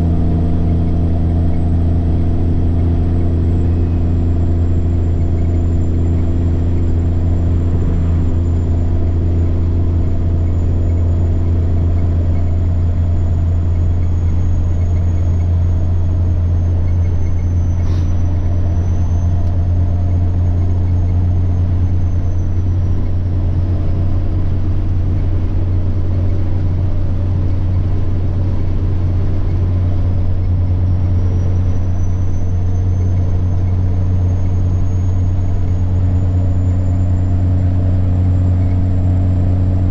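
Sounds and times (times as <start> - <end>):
diesel truck engine droning: 0.0 - 39.9
turbocharger whine: 0.0 - 39.9.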